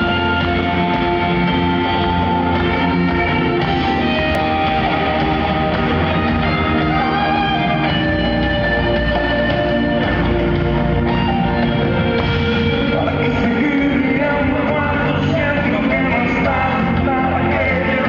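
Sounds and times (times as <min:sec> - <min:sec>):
guitar: 0:00.0 - 0:18.0
live band music: 0:00.0 - 0:18.0.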